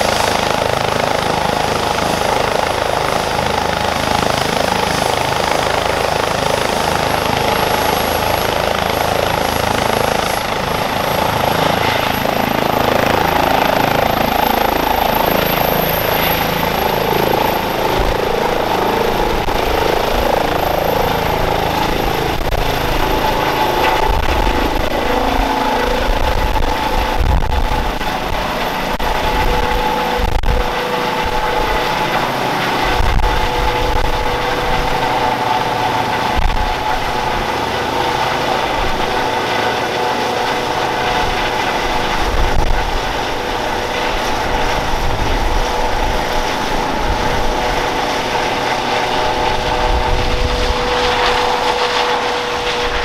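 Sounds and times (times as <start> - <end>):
helicopter turbine whine: 0.0 - 53.0.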